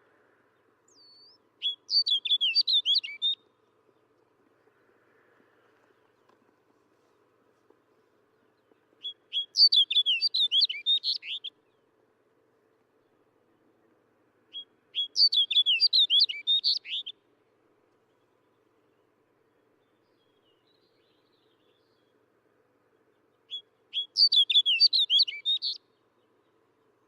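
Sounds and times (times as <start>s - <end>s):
snow bunting singing: 0.0s - 4.9s, 5.6s - 12.0s, 12.8s - 27.0s.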